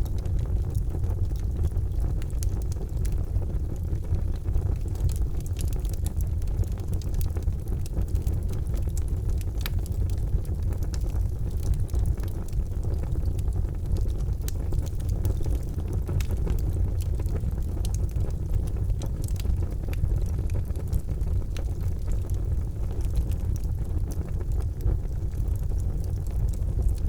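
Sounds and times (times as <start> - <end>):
charcoal fire burning: 0.0 - 27.0
fire crackling and popping: 0.0 - 27.0.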